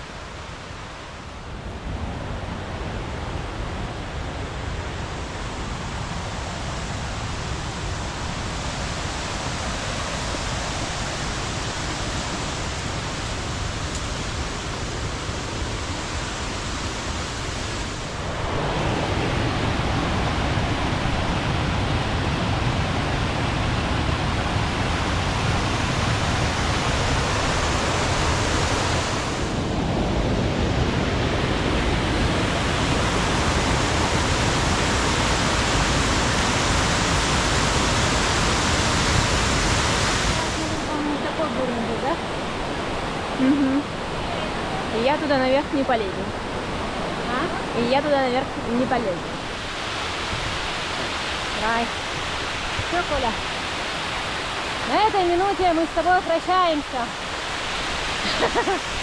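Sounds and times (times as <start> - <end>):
waterfall rushing: 4.4 - 59.0.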